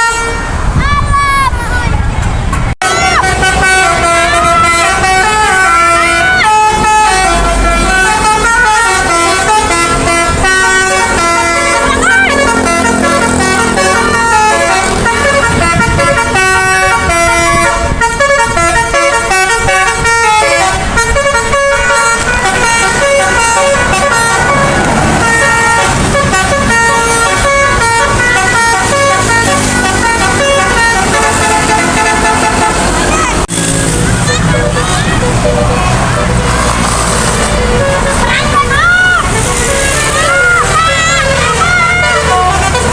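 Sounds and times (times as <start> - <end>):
musical air horn playing a tune: 0.0 - 0.6, 2.8 - 42.9
low vehicle rumble: 0.0 - 42.9.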